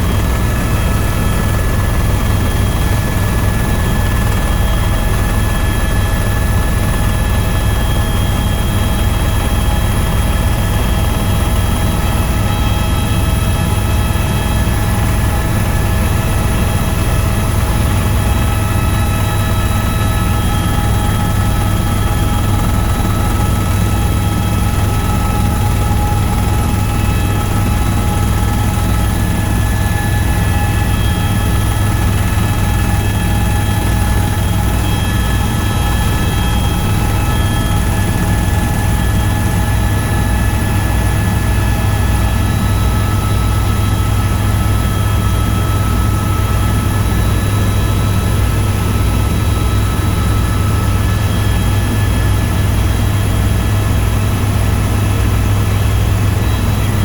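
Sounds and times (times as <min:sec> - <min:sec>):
helicopter rotor drone: 0:00.0 - 0:57.0
high turbine whine: 0:00.0 - 0:57.0.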